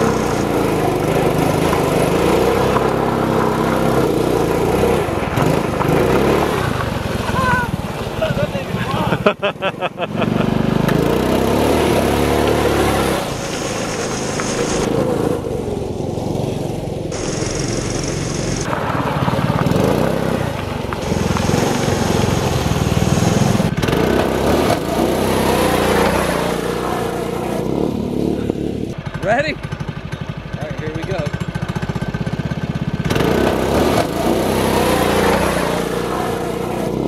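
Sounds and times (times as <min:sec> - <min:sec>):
small engine revving: 0:00.0 - 0:37.0.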